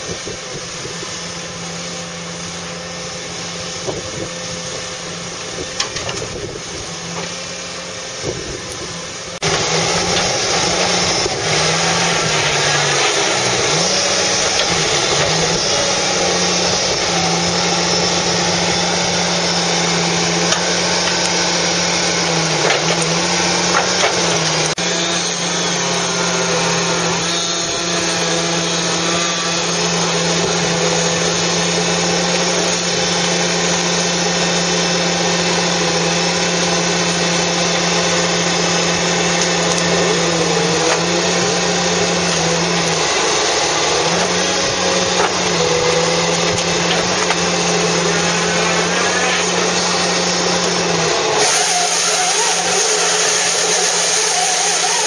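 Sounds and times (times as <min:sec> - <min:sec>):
diesel engine droning: 0:00.0 - 0:55.0
high wavering machine whine: 0:00.0 - 0:55.0.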